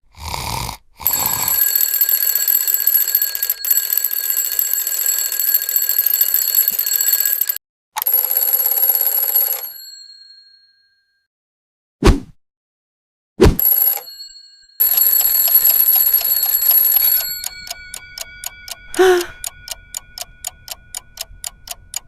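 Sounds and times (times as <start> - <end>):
alarm clock ringing: 1.0 - 10.8, 13.6 - 22.0.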